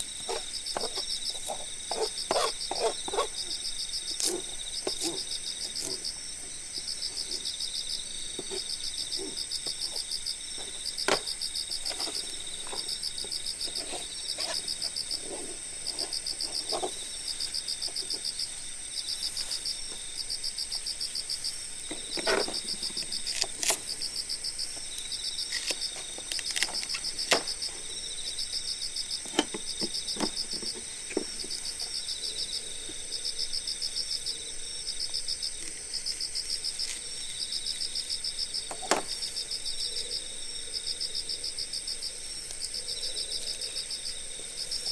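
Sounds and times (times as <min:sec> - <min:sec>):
high-pitched insect trill: 0:00.0 - 0:44.9
insects chirping: 0:00.0 - 0:44.9.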